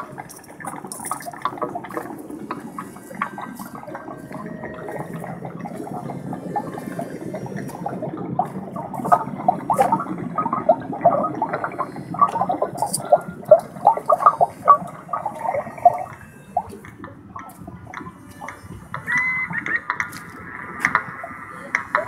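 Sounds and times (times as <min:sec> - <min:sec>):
water trickling and dripping: 0:00.0 - 0:22.0.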